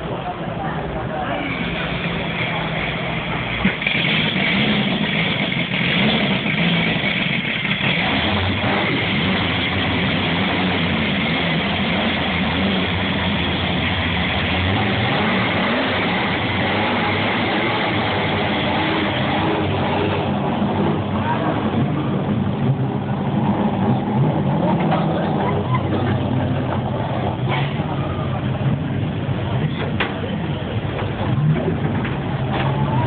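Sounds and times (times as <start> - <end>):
car engines idling and revving: 0.0 - 33.0.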